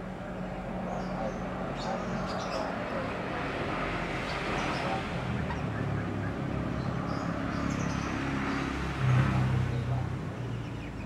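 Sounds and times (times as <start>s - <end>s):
low hum of distant traffic: 0.0s - 11.0s.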